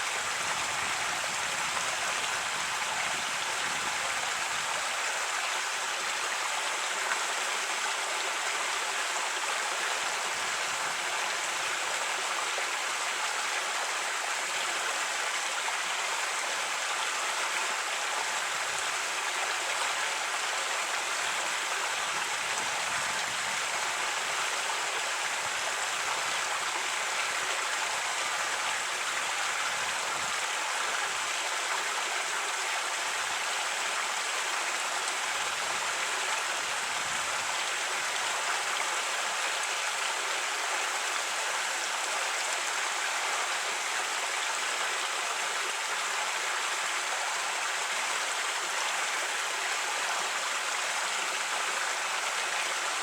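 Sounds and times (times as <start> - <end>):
creek water babbling over rocks: 0.0 - 53.0.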